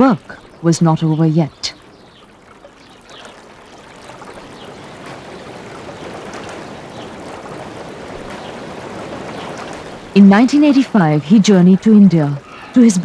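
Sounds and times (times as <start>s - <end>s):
faint splashes: 0.0s - 13.0s
running water rushing: 0.0s - 13.0s.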